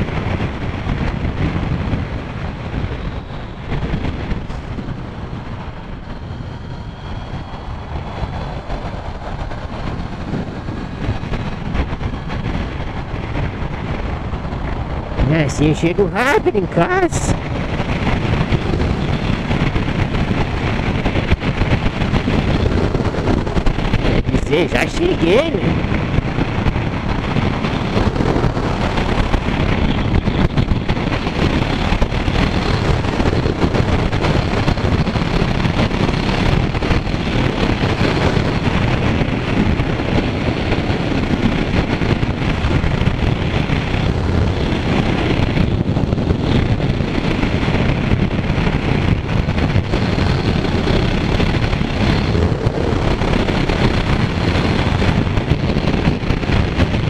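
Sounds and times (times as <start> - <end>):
motorcycle running: 0.0 - 57.0
wind rushing over microphone: 0.0 - 57.0.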